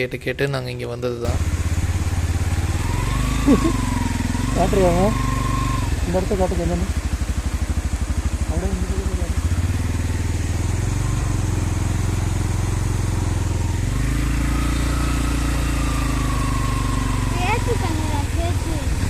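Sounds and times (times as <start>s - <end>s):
motorcycle engine running: 1.2s - 19.0s.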